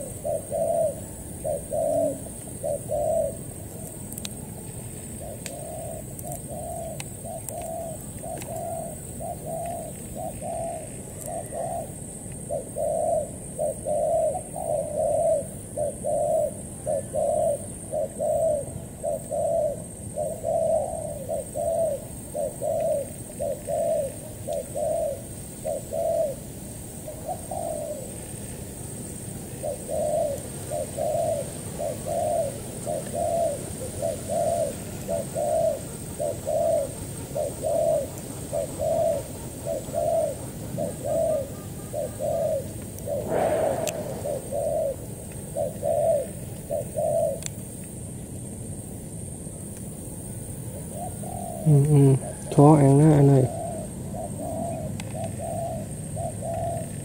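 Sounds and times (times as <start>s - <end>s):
dove cooing: 0.0s - 47.5s, 50.7s - 57.0s.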